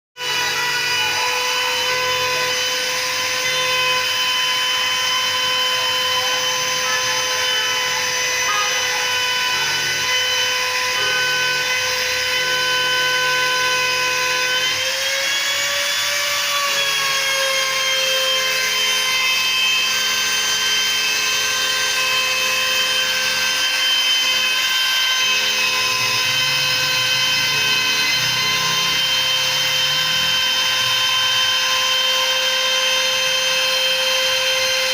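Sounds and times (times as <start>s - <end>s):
axis motors humming: 0.2s - 34.9s
router spindle whining: 0.2s - 34.9s.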